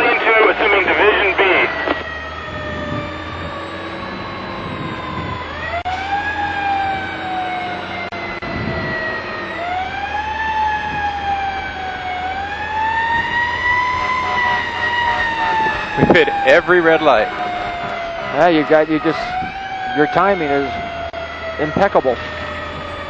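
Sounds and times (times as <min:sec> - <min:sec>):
fire truck siren wailing: 0:00.0 - 0:23.0.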